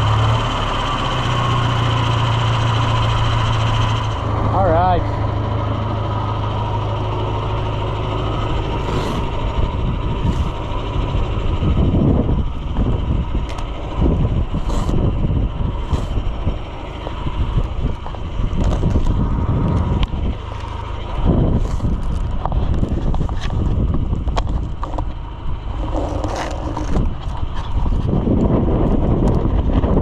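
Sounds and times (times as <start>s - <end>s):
tractor engine running: 0.0s - 30.0s
wind buffeting microphone: 1.3s - 30.0s.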